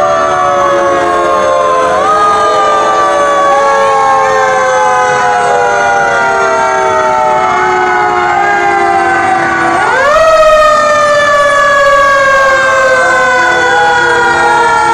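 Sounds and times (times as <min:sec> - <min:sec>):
fire engine sirens wailing: 0:00.0 - 0:14.9
siren winding up and down: 0:00.0 - 0:14.9.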